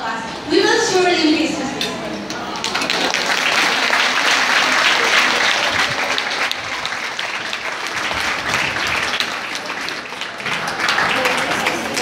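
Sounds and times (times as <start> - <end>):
crowd applauding: 2.4 - 12.0.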